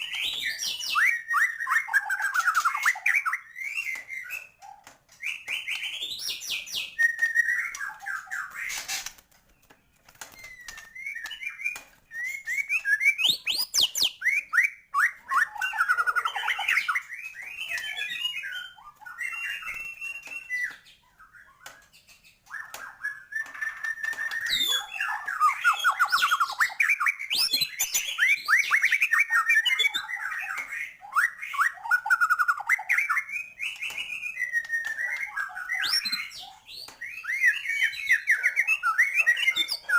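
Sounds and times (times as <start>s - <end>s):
bird singing whistled phrases: 0.0s - 4.6s, 5.2s - 8.7s, 10.3s - 21.7s, 22.5s - 39.9s.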